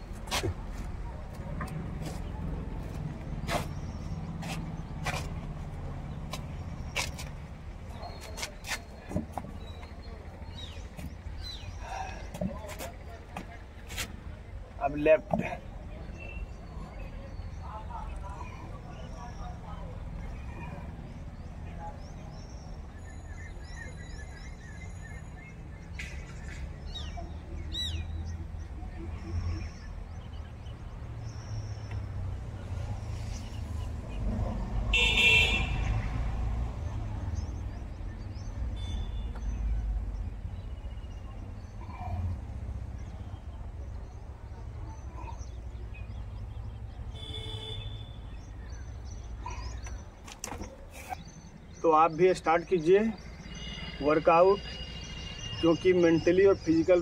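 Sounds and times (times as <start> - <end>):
small birds chirping: 2.1 - 13.2, 14.8 - 34.3, 36.8 - 57.0.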